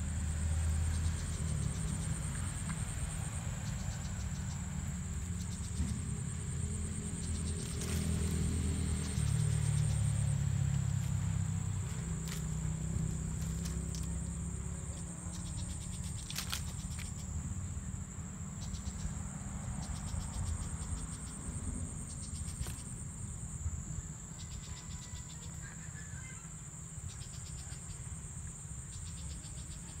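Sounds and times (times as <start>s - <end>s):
insects droning with high trill: 0.0s - 30.0s
rapid insect chirping pulses: 0.0s - 30.0s.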